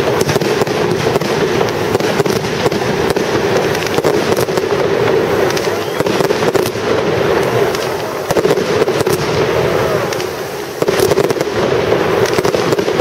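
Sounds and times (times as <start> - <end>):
firework shells bursting: 0.0 - 13.0
fireworks crackling: 0.0 - 13.0.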